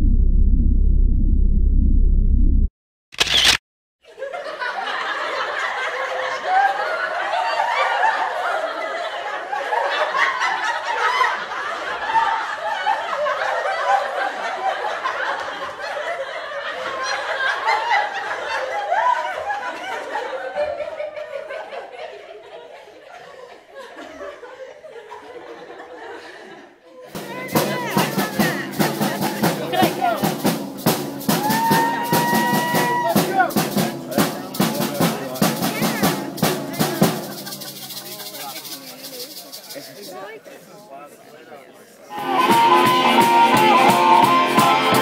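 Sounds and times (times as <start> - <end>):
people laughing: 4.0 - 45.0
crowd talking: 4.4 - 45.0.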